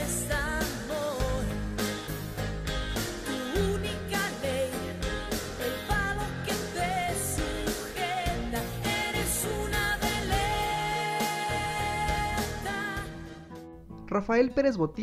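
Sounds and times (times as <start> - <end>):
band with bass and drums: 0.0 - 13.1
woman singing pop song: 0.0 - 13.6.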